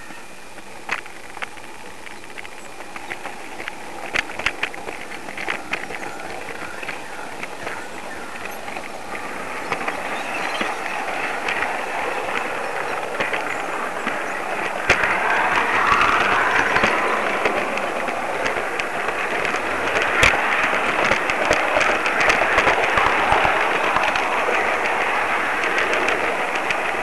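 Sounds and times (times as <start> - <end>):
train rushing along track: 0.0 - 27.0
sharp track clicks: 0.6 - 27.0.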